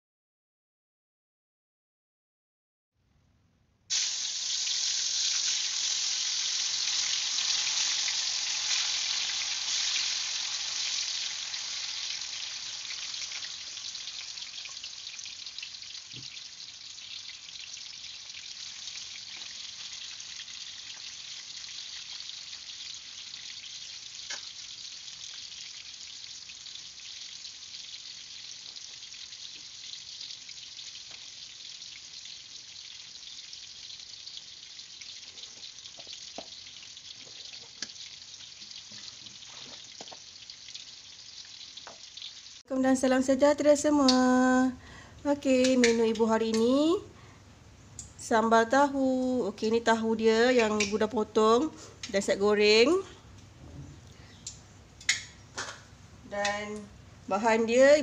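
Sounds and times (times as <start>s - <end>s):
tofu sizzling in hot oil: 3.9s - 53.6s, 54.4s - 58.0s.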